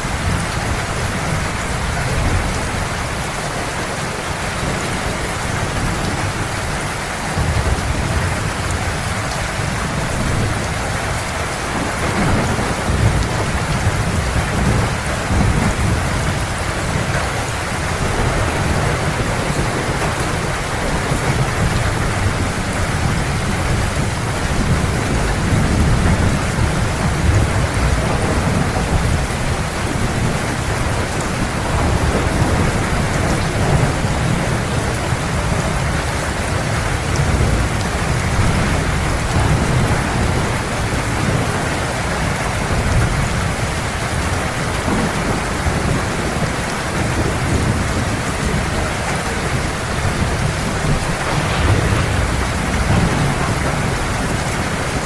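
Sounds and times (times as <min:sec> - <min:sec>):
heavy rain: 0:00.0 - 0:55.0
low thunder rumble: 0:04.3 - 0:55.0.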